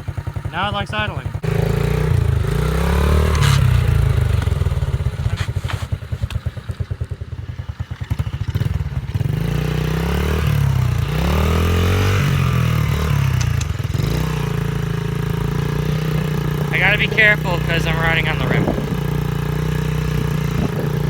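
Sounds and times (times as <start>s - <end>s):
dirt bike engine idling and revving: 0.0s - 21.0s.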